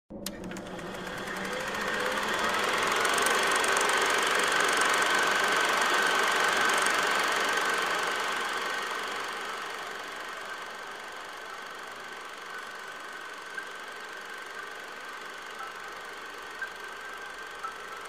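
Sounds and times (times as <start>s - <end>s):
mechanical whirring with rattle: 0.1s - 18.0s.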